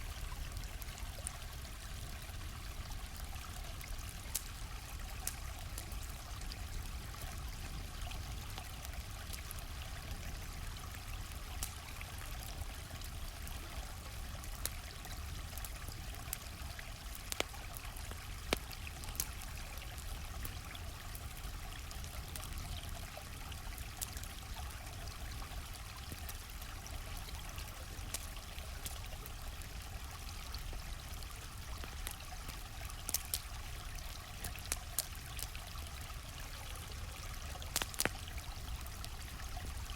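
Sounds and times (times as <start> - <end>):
campfire crackling and popping: 0.0 - 39.9
stream flowing: 0.0 - 39.9.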